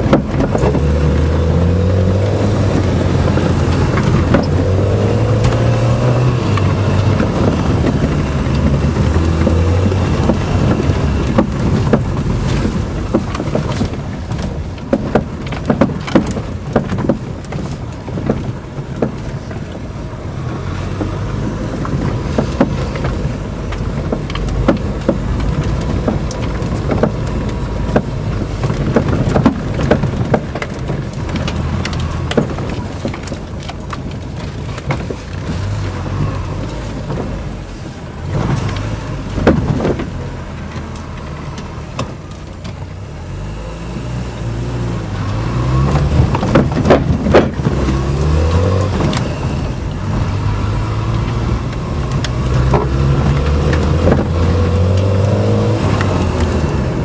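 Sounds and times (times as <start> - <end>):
car knocks and rattles: 0.0 - 43.6, 44.6 - 57.0
car engine revving: 0.0 - 57.0.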